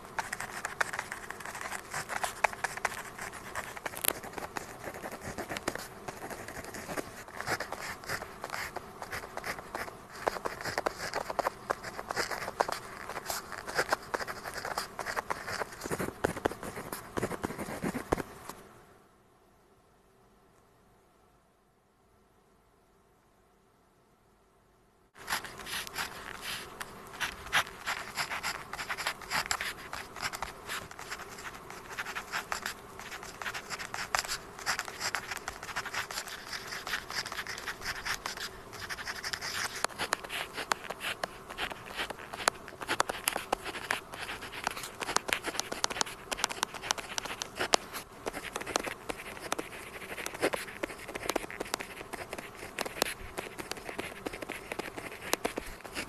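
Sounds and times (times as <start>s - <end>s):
pen writing on paper: 0.1s - 18.3s, 25.2s - 56.0s.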